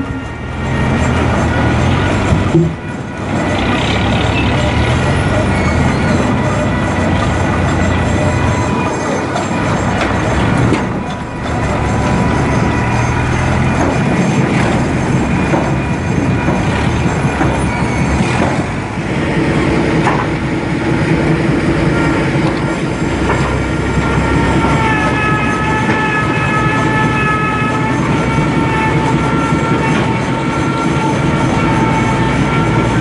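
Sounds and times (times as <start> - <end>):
high steady squeal: 0.0 - 33.0.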